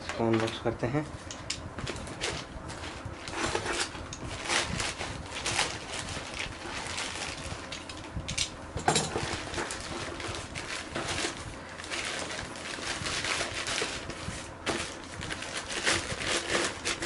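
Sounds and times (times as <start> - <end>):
plastic mailer bag crinkling: 1.8 - 8.1, 8.9 - 17.0.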